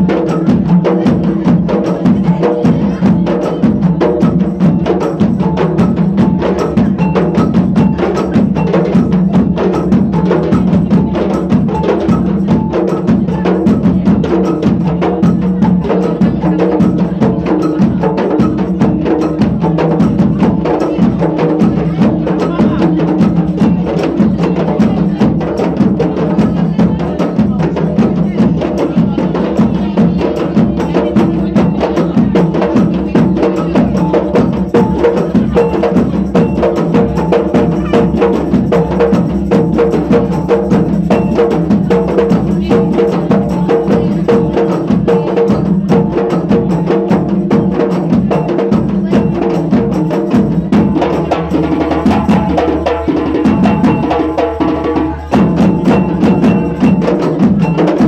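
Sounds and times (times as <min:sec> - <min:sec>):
fast hand percussion music: 0:00.0 - 0:58.0.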